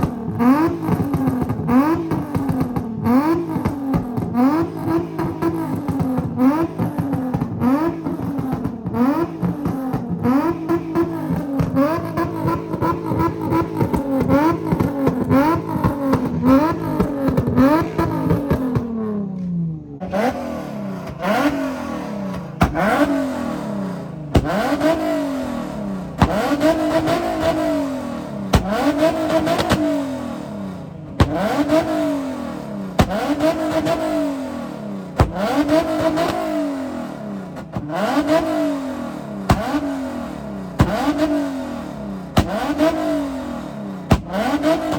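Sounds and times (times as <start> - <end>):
exhaust backfire pops: 0.0 - 36.9, 37.5 - 44.9
car exhaust revving: 0.0 - 44.9.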